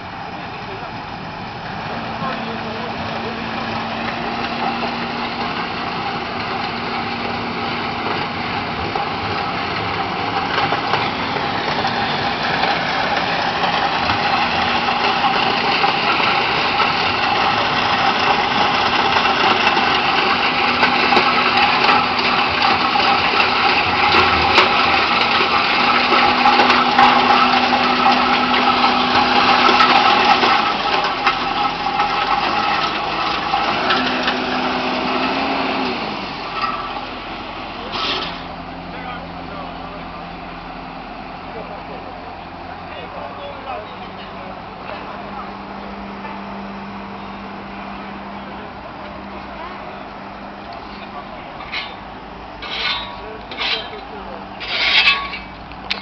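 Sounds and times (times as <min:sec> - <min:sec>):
loader engine with snow blower: 0:00.0 - 0:56.0.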